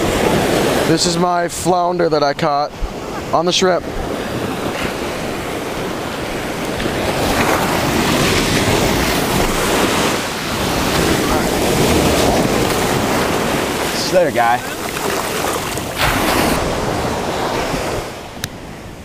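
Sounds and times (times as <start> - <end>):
ocean surf washing up beach: 0.0 - 19.0
wind buffeting microphone: 0.0 - 19.0.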